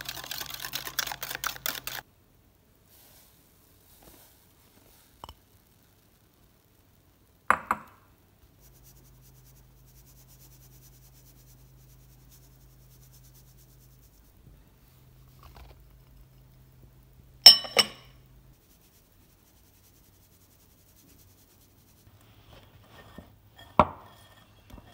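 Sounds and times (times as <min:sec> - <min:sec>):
faint low hum: 0:04.5 - 0:24.9.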